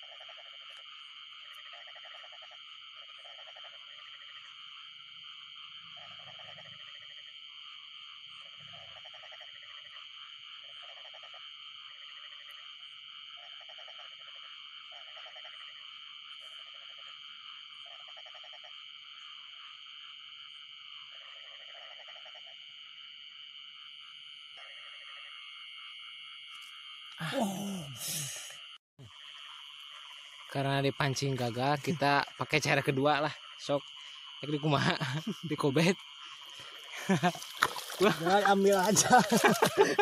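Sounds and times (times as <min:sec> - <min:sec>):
frog croaking in pulsed calls: 0:00.0 - 0:22.9, 0:29.1 - 0:40.0
night chorus of frogs and insects: 0:00.0 - 0:40.0.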